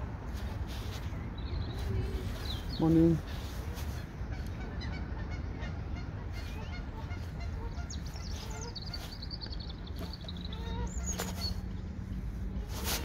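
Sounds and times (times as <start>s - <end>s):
steady low rumble: 0.0s - 12.8s
birds honking and chirping: 0.4s - 13.0s.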